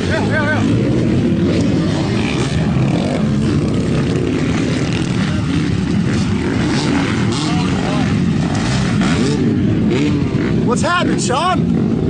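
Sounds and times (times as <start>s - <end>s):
dirt bike engines droning: 0.0s - 12.0s.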